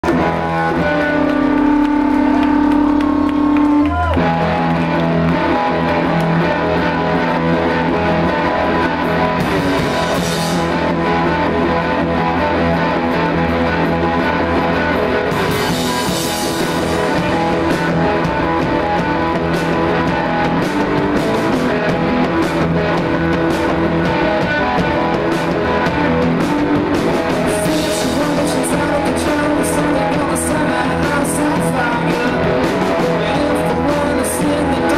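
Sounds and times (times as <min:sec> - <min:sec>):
held electric guitar notes: 0:00.0 - 0:34.9
live rock band playing: 0:00.0 - 0:34.9.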